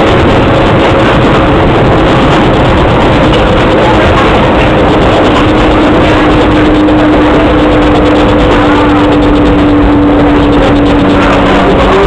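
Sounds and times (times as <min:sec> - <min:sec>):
rushing air: 0:00.0 - 0:12.0
steady hum: 0:00.0 - 0:12.0
train wheels rumbling: 0:00.0 - 0:12.0.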